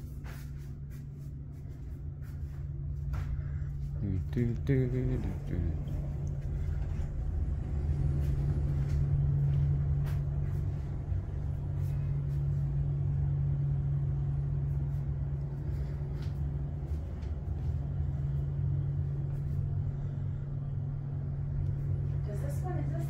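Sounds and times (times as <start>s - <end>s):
low mechanical hum: 0.0s - 23.0s
low rumble: 0.0s - 23.0s.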